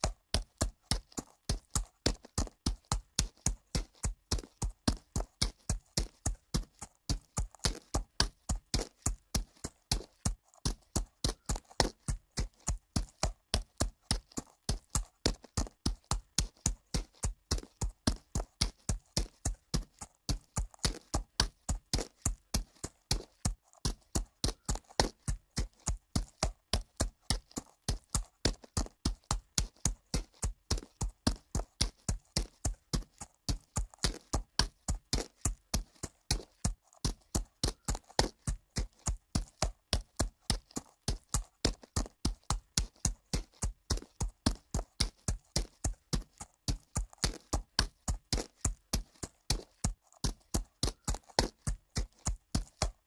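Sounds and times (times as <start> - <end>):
horse hoofbeats on dirt: 0.0 - 53.0.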